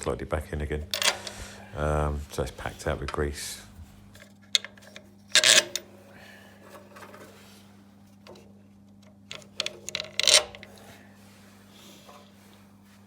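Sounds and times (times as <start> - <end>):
hard parts knocking and rubbing: 0.0 - 11.0
faint steady hum: 0.0 - 13.0.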